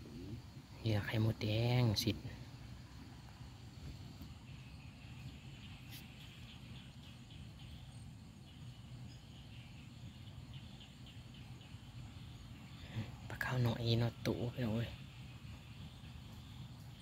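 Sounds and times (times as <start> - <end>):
insect chirps: 0.0 - 17.0
low steady rumble: 0.0 - 17.0
bird chirps: 3.3 - 17.0.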